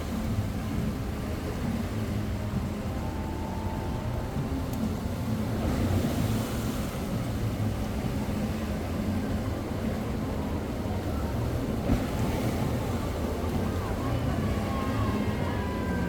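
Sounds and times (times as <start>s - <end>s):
boat motor running: 0.0s - 16.0s
water rushing along hull: 0.0s - 16.0s.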